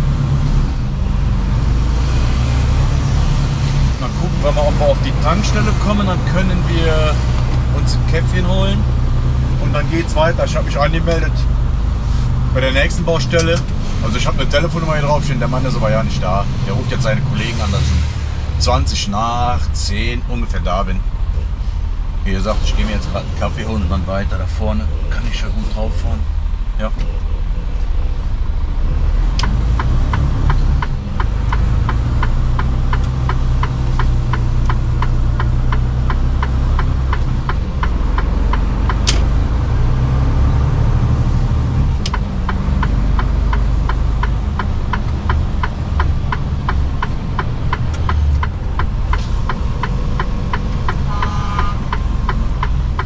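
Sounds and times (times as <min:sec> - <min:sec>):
turn signal ticking: 0:00.0 - 0:17.5, 0:18.4 - 0:53.0
truck diesel engine: 0:00.0 - 0:53.0.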